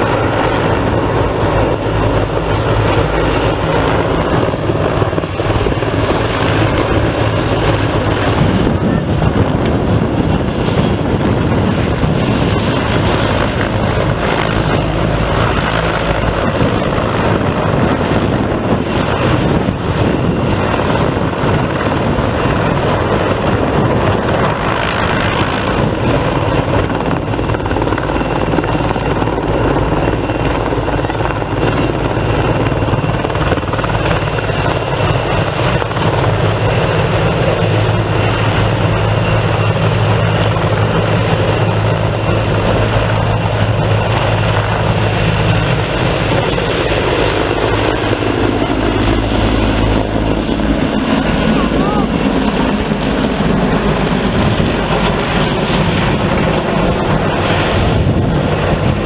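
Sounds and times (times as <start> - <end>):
helicopter flying overhead: 0.0 - 59.0.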